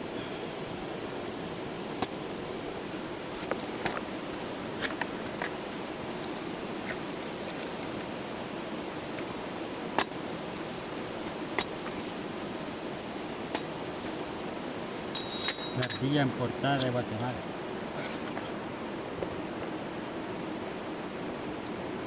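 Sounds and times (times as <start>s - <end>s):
high insect hum: 0.0s - 22.0s.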